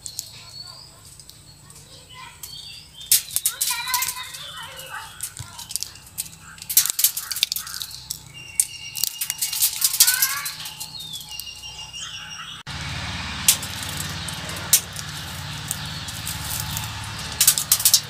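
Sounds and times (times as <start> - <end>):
seed pods cracking open: 0.0 - 11.7, 13.4 - 18.0
seeds striking metal roof: 0.0 - 12.0, 12.6 - 18.0
birds chirping: 0.0 - 18.0.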